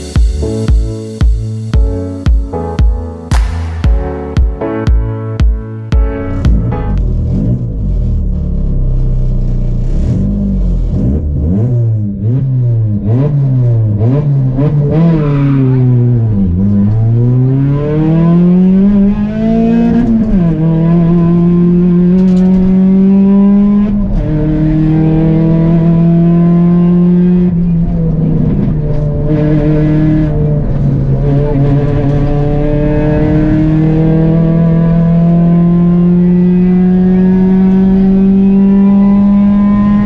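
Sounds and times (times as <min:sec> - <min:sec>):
rally car engine revving: 0:06.3 - 0:40.0.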